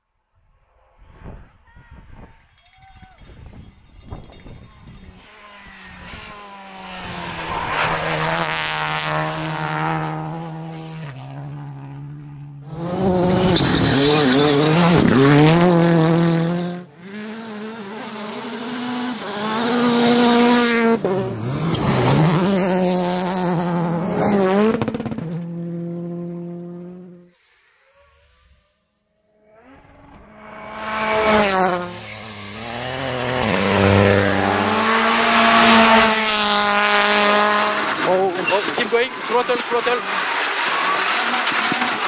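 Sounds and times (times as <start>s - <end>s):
rally car engines revving: 3.7s - 28.5s, 29.4s - 42.0s.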